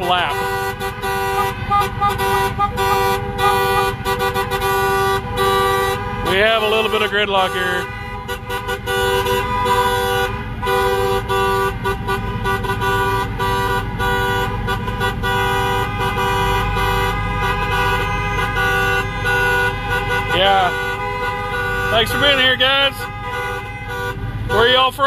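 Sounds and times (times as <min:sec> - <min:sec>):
car engines rumbling: 0:00.0 - 0:25.0
car horns honking: 0:00.0 - 0:25.0.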